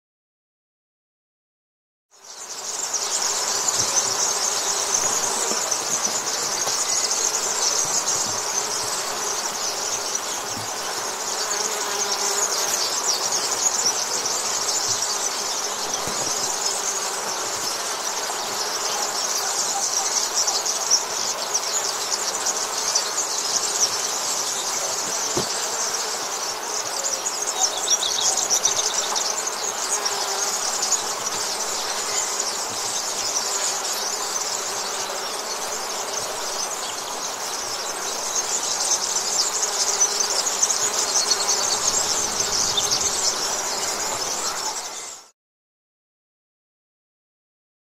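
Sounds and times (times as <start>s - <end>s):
bees buzzing: 2.3s - 45.2s
chorus of high chirping: 2.4s - 45.3s.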